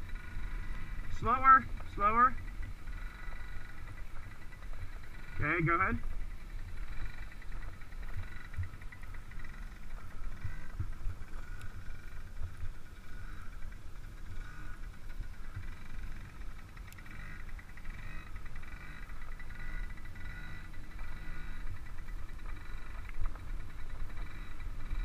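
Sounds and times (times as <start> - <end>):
small dirt bike engine buzzing: 0.0 - 25.0.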